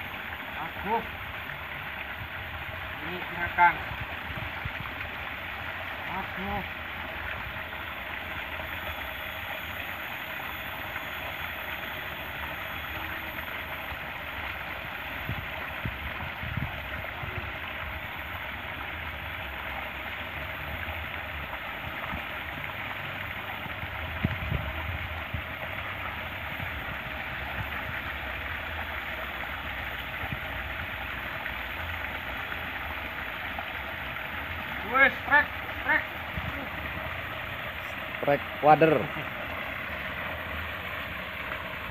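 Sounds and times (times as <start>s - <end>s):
water pouring over a weir: 0.0s - 41.9s.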